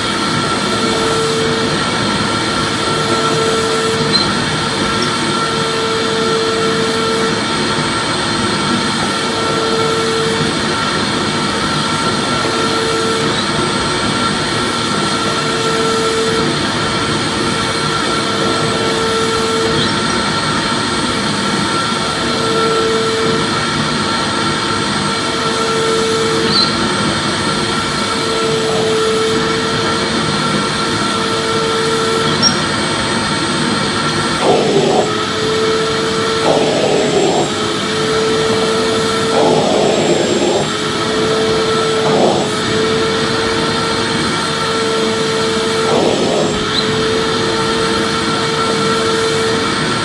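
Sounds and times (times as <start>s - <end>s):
vacuum cleaner motor running: 0.0s - 50.0s.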